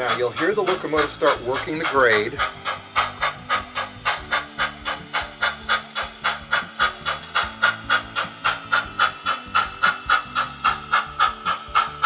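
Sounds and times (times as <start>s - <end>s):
model steam locomotive chuffing: 0.0s - 12.0s
steady low hum: 0.0s - 12.0s.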